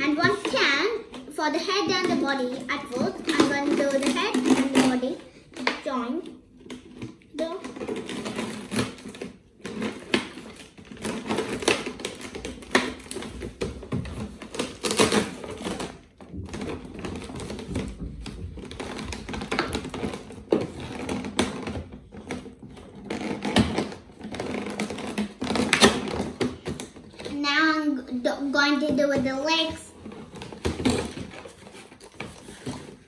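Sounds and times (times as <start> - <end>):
plastic bottles crackling: 0.0 - 33.0.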